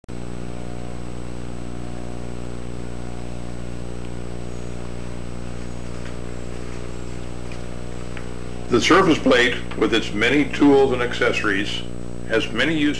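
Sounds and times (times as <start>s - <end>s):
electrical hum and buzz: 0.1s - 12.9s
faint high-pitched whine: 0.2s - 12.9s.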